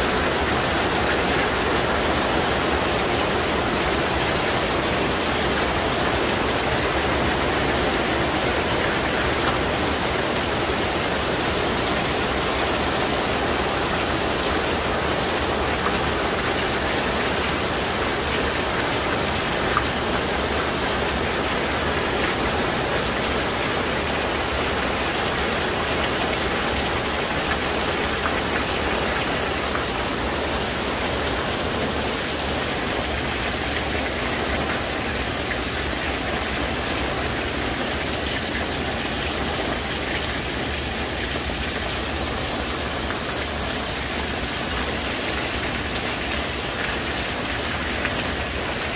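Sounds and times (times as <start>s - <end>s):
heavy rain hissing on pavement: 0.0s - 48.9s
runoff water splashing: 0.0s - 48.9s.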